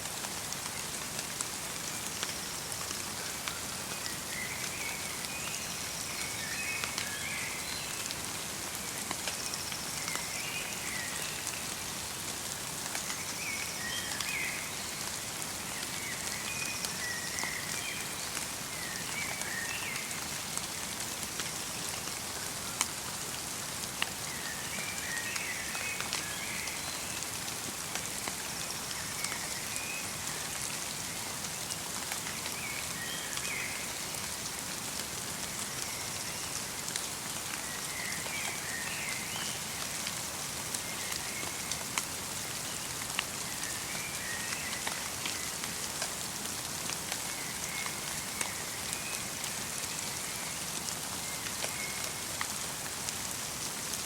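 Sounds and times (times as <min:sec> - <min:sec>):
light rain in a forest: 0:00.0 - 0:54.0
raindrops ticking on surfaces: 0:00.0 - 0:54.0.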